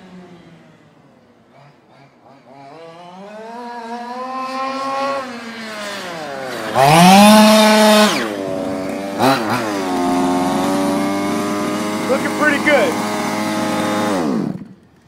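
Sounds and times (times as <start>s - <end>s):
two-stroke engine revving: 1.5s - 15.0s.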